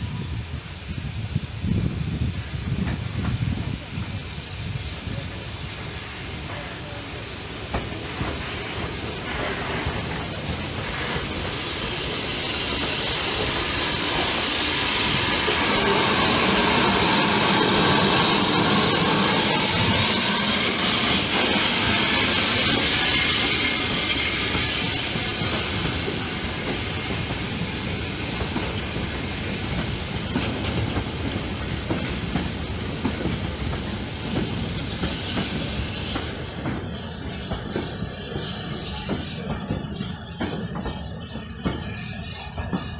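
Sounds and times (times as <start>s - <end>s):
steam locomotive hissing: 0.0s - 42.9s.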